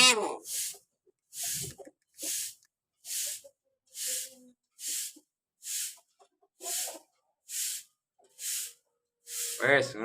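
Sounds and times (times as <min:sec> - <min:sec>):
bird giving breathy hisses: 0:00.4 - 0:06.0, 0:06.6 - 0:09.6.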